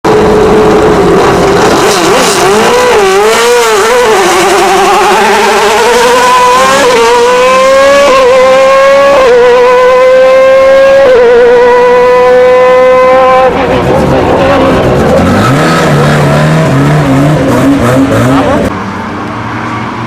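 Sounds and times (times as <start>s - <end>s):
race car engine at high revs: 0.1s - 20.0s.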